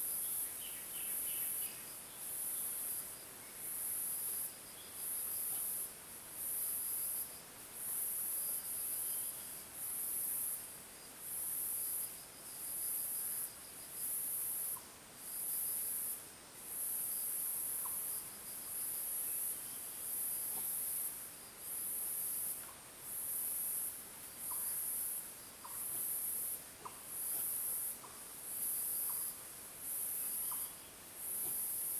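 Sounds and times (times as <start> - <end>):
insects buzzing in bursts: 0.0 - 31.9
rapid insect trill: 0.0 - 31.9
faint small ticks: 4.1 - 31.9.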